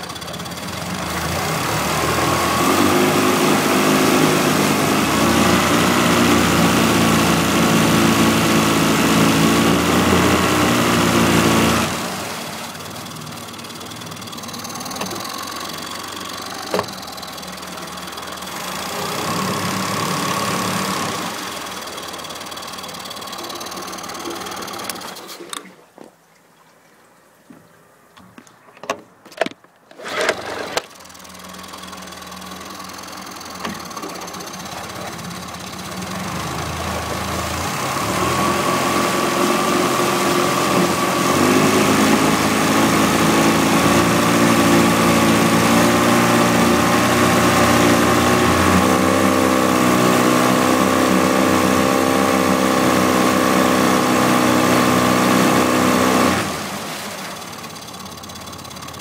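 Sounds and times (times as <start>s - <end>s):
outboard motor running: 0.0s - 26.0s, 29.9s - 59.0s.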